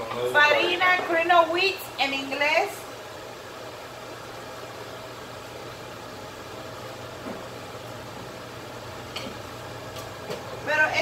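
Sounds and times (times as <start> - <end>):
fan running: 0.0 - 11.0.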